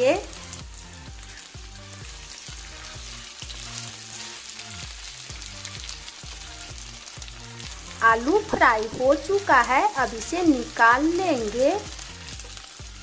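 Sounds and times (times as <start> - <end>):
background music: 0.0 - 13.0
potatoes sizzling in oil: 0.0 - 13.0.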